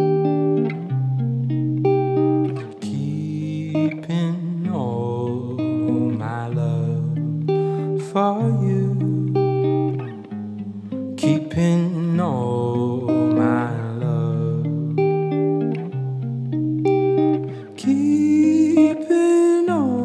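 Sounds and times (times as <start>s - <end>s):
song with plucked guitar: 0.0s - 20.0s.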